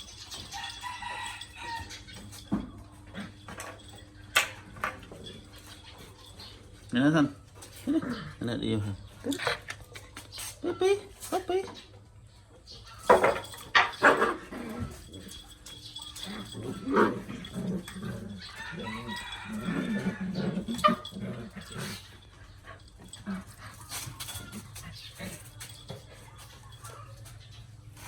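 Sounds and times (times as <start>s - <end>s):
puppies yapping: 0.0s - 8.3s, 12.6s - 28.0s
puppies growling: 0.0s - 10.1s, 13.7s - 28.0s.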